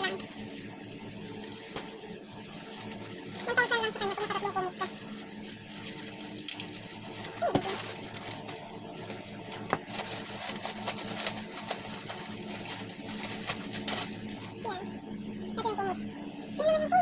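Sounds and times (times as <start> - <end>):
plastic packaging crinkling: 0.0 - 14.8
low steady hum: 0.0 - 17.0.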